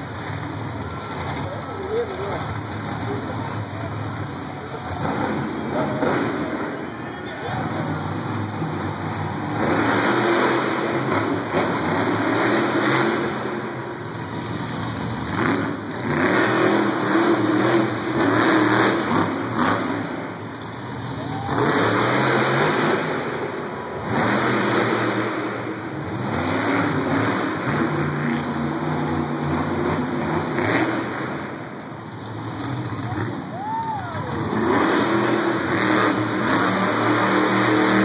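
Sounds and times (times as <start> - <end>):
monster truck engines revving: 0.0 - 38.0.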